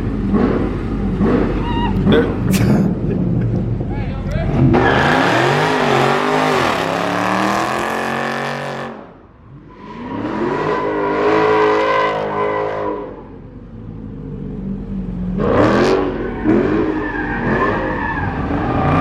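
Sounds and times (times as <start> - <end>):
car engine revving hard: 0.0 - 3.2, 4.5 - 13.2, 15.3 - 19.0.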